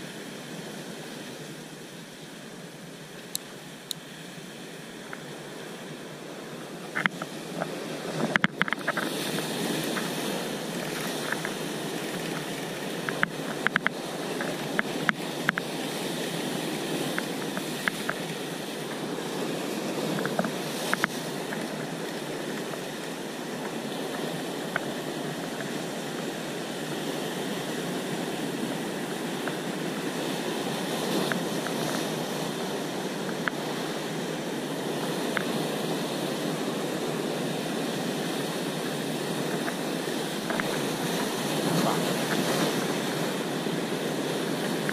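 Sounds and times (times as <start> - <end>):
surf washing over rocks: 0.0 - 44.9.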